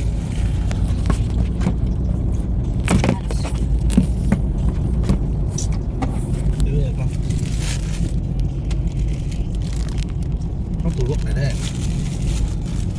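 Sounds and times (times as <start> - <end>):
car interior rumble: 0.0 - 12.9.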